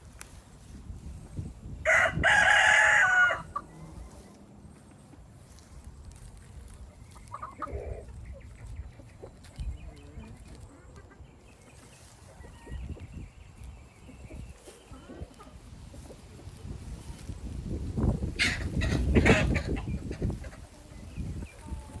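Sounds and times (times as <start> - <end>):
chickens clucking: 0.6 - 22.0.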